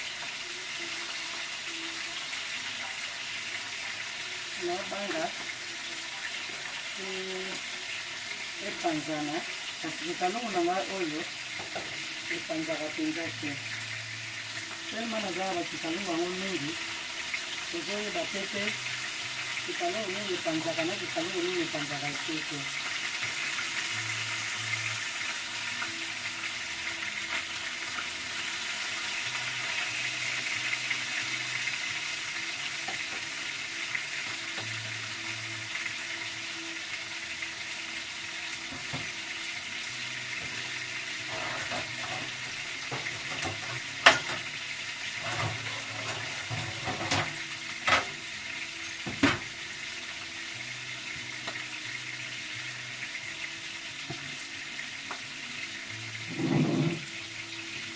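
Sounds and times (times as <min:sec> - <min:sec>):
food sizzling in oil: 0:00.0 - 0:57.9.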